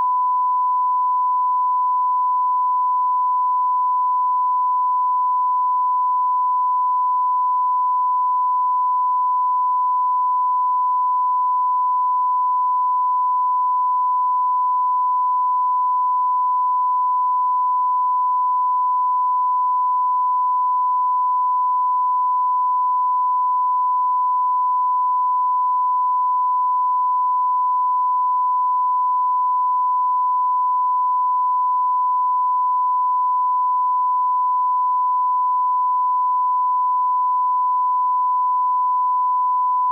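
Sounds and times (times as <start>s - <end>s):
censor bleep tone: 0.0s - 39.9s.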